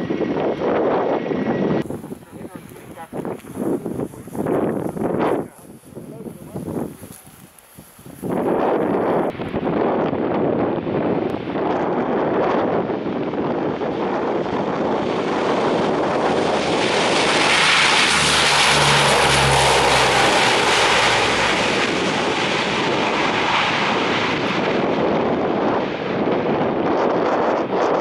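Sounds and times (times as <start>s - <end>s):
turboprop aircraft taking off: 0.0s - 28.0s.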